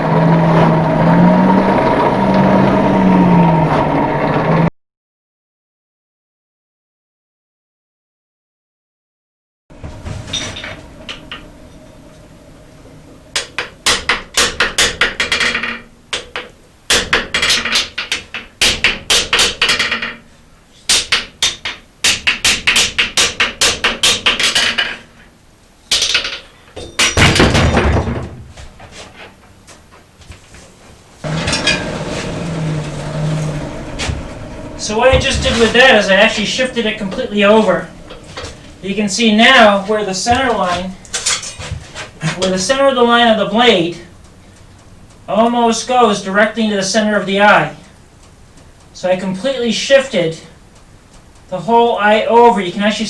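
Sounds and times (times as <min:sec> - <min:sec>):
steady hum: 0:00.0 - 0:04.7, 0:09.7 - 0:27.9, 0:28.6 - 0:53.0.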